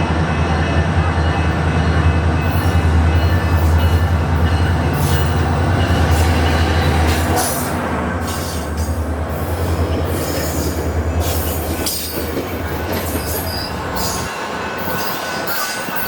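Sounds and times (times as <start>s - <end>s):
diesel train engine rumbling: 0.0s - 16.0s
train wheels squealing and clattering: 2.4s - 16.0s.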